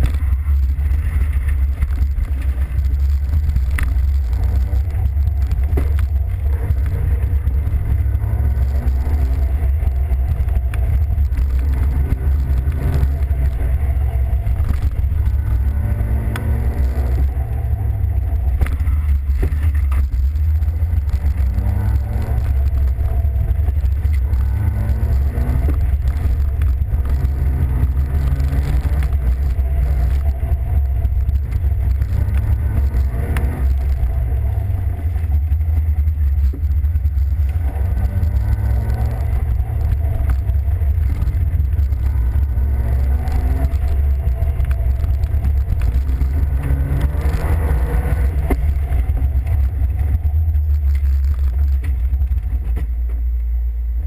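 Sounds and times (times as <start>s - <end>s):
car engine revving: 0.0s - 54.0s
road and wind rumble: 0.0s - 54.0s.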